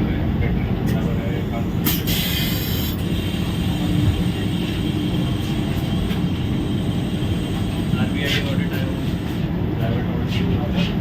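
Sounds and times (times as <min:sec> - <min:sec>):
train rumble inside coach: 0:00.0 - 0:11.0.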